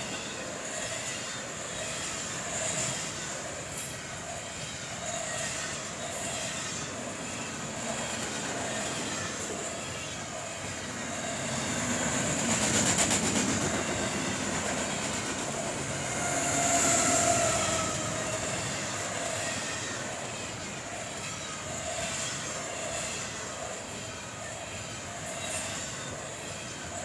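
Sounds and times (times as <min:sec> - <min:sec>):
diesel locomotive engine: 0:00.0 - 0:27.0
train wheels rumbling on rails: 0:00.0 - 0:27.0.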